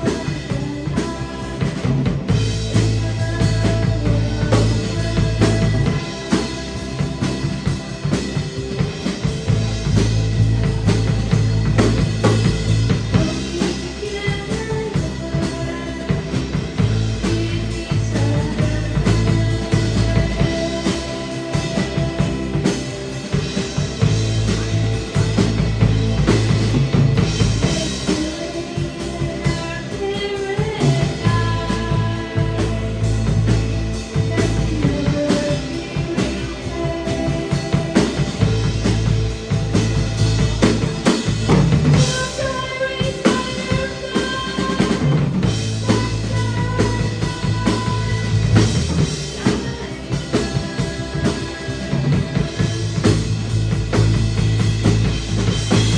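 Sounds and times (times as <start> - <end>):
bass drum and snare beat: 0.0 - 55.9
rock band playing live: 0.0 - 55.9.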